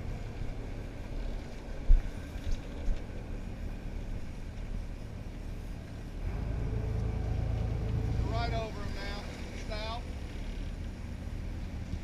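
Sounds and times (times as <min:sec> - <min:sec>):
boat engine idling: 0:00.0 - 0:12.0
water noise: 0:00.0 - 0:12.0
wind: 0:00.0 - 0:12.0.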